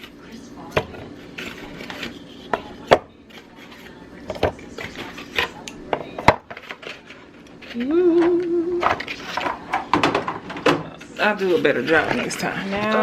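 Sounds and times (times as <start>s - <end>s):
food containers knocking and clattering: 0.8s - 7.2s, 8.2s - 13.0s.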